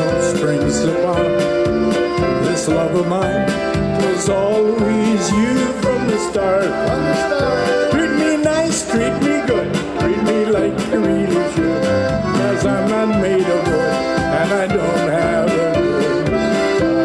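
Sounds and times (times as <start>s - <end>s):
accordion: 0.0s - 17.0s
electric keyboard: 0.0s - 17.0s
steady drum beat: 0.0s - 17.0s.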